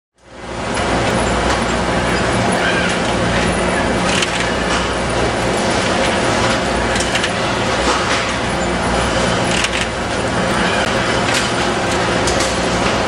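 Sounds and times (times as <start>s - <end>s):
factory machinery noise: 0.2s - 13.0s.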